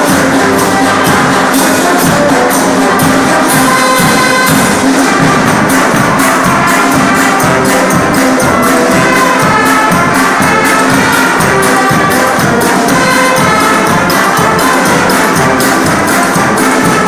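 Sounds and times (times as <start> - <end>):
loud music with steady beat: 0.0 - 17.0.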